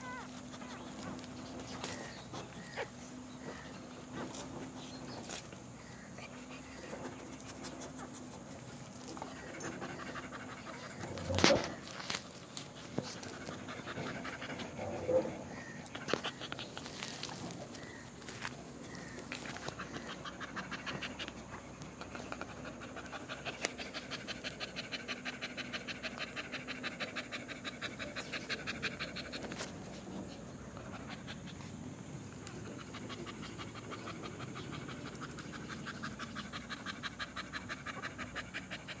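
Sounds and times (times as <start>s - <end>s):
dog panting: 0.1s - 39.0s.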